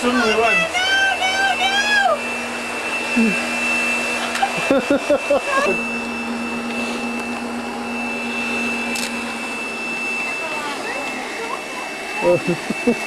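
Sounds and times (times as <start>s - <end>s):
vacuum cleaner whine: 0.0s - 13.0s.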